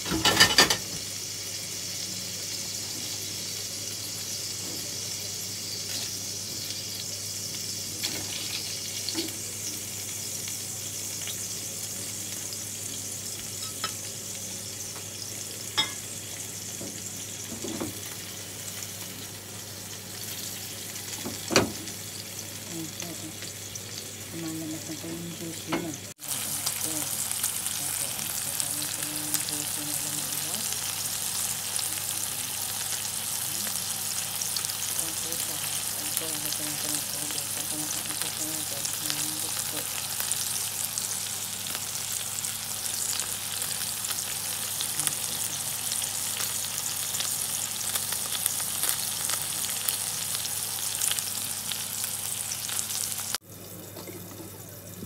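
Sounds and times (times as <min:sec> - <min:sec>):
patties sizzling in a frying pan: 0:00.0 - 0:55.0.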